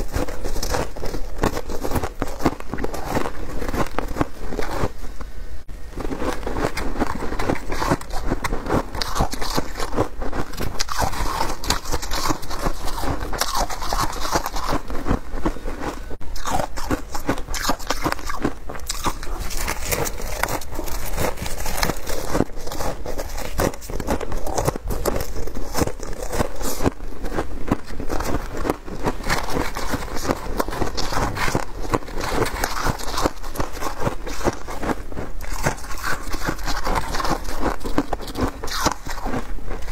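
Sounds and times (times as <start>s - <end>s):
fingers squeezing ice: 0.0s - 4.9s, 6.0s - 39.9s
chewing shaved ice: 0.0s - 5.0s, 6.0s - 39.9s.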